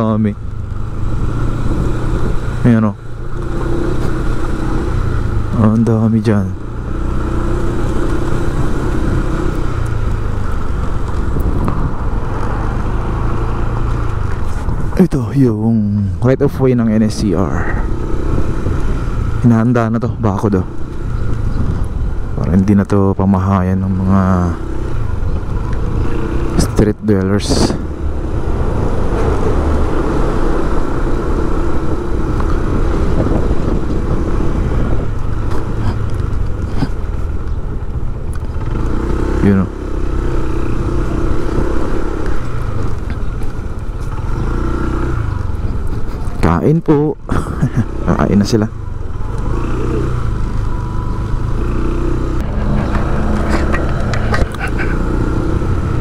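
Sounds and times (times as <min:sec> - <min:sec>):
road and wind noise: 0:00.0 - 0:56.0
vehicle engine running: 0:00.0 - 0:56.0.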